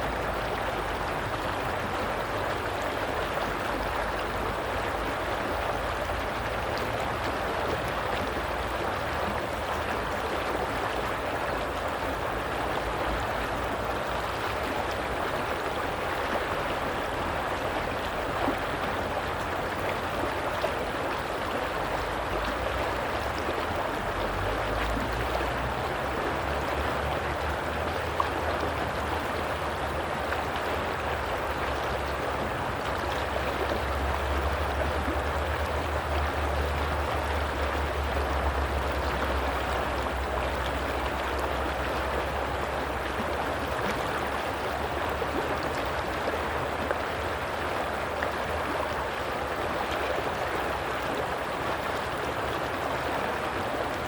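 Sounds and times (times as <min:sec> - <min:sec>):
small water splashes: 0:00.0 - 0:54.0
stream water rushing and gurgling: 0:00.0 - 0:54.0.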